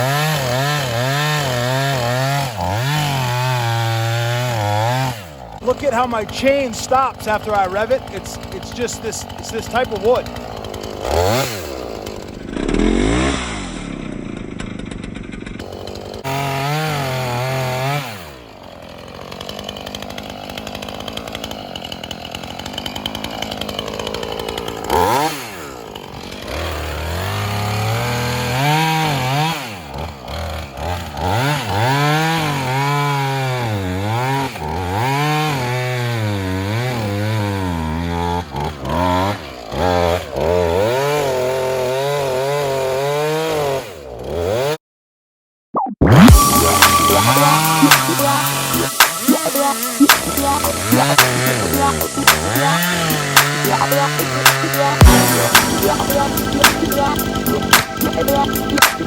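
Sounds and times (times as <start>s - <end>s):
chainsaw idling and revving: 0.0s - 44.8s, 46.3s - 59.0s.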